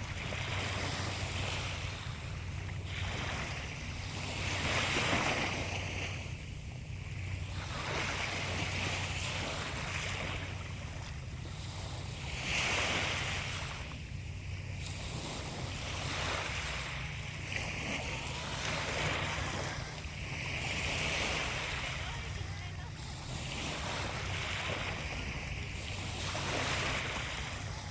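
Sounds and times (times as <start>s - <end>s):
sea waves breaking: 0.0s - 27.9s.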